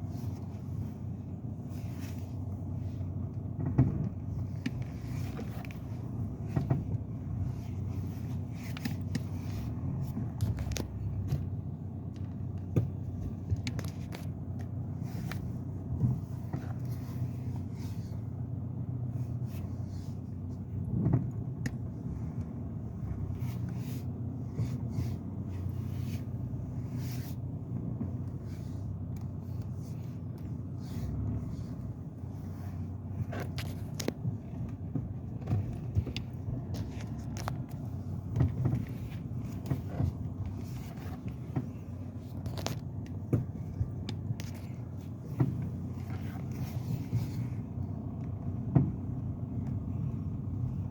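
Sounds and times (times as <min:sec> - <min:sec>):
car engine hum: 0:00.0 - 0:50.9.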